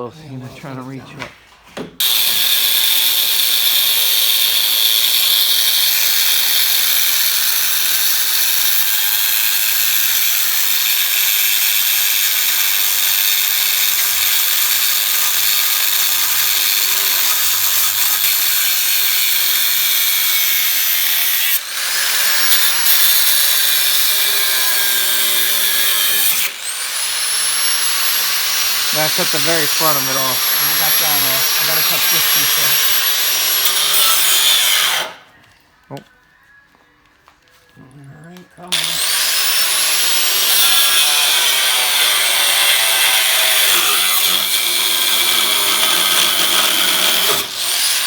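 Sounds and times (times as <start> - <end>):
power tool cutting steel: 2.0 - 35.3, 38.7 - 48.0.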